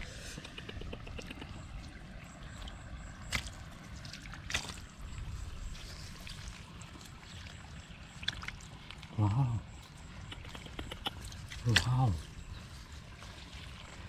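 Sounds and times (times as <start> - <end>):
flowing water: 0.0 - 14.0.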